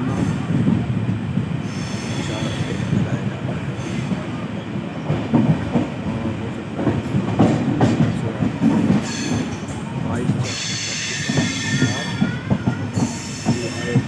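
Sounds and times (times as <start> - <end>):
train wheels rumbling on rail: 0.0 - 14.0
clacks over rail joints: 0.6 - 14.0.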